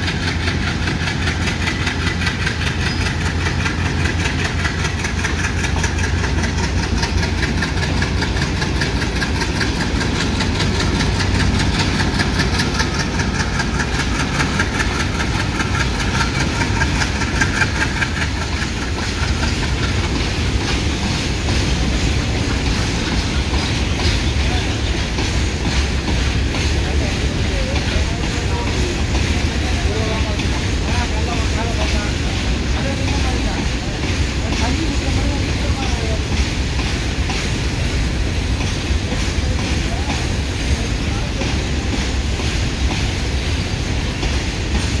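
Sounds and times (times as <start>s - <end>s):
diesel locomotive engine running: 0.0s - 45.0s
train wheels clattering on rails: 0.0s - 45.0s.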